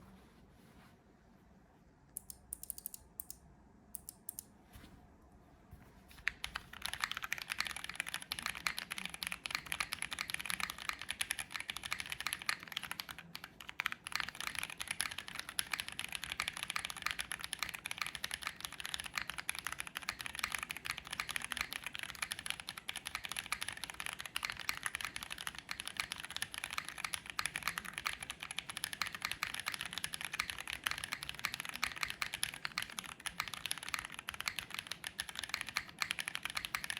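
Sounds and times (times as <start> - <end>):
mechanical keyboard typing: 2.2 - 3.4, 6.2 - 36.9.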